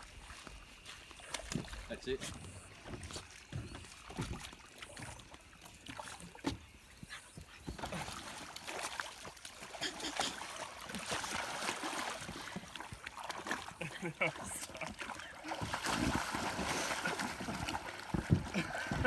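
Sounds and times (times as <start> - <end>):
water sloshing against boat: 0.0 - 19.0.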